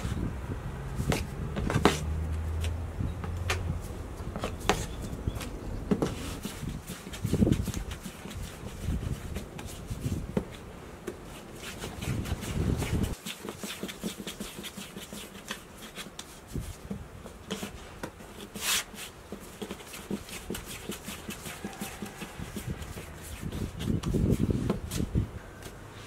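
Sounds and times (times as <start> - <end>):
hands kneading dough on tray: 4.3 - 26.0.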